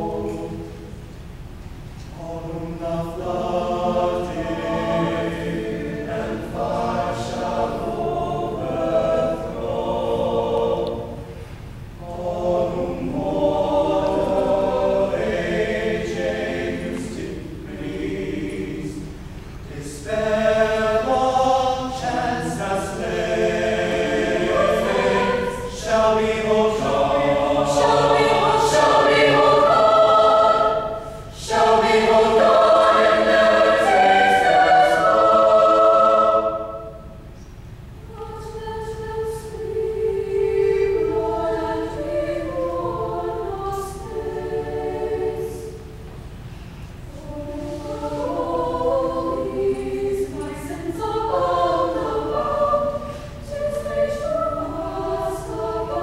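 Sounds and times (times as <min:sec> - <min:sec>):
mixed choir singing: 0:00.0 - 0:01.0, 0:02.1 - 0:37.3, 0:38.0 - 0:46.2, 0:47.1 - 0:56.0.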